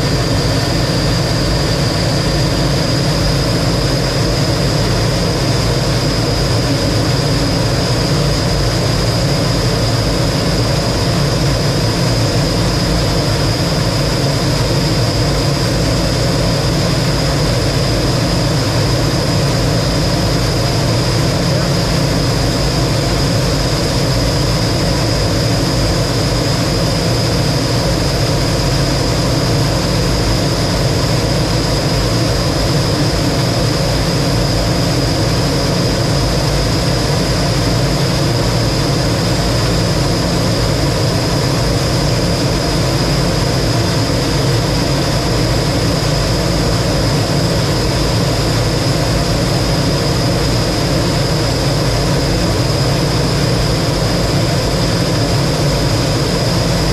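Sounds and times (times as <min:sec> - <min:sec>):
high engine whine: 0:00.0 - 0:56.9
jet engine roar: 0:00.0 - 0:56.9.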